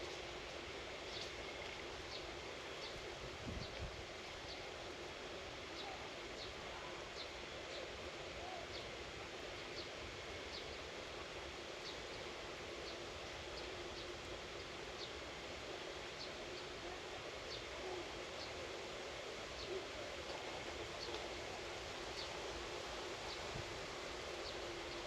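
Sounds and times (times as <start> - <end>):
faint hiss: 0.0 - 25.0.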